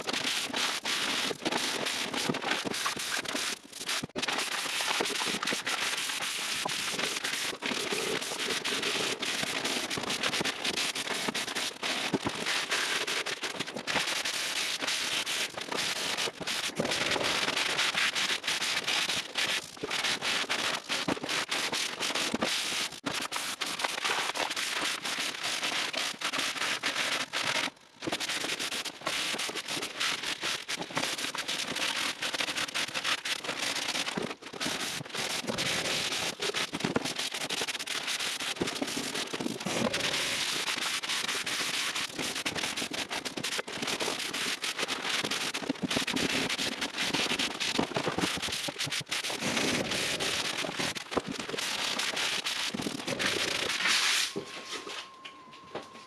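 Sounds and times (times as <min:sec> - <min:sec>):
sandpaper rasping: 0:00.2 - 0:54.4.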